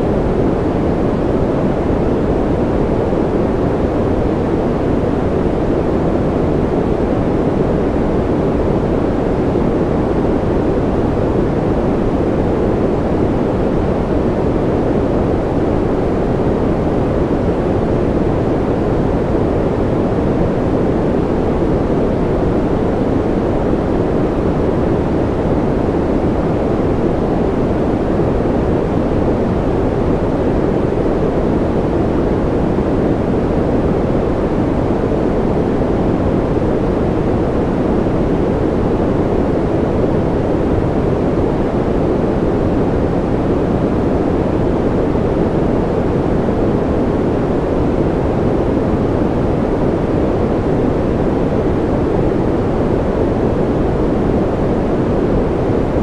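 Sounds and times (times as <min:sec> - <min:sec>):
low steady noise: 0:00.0 - 0:56.0.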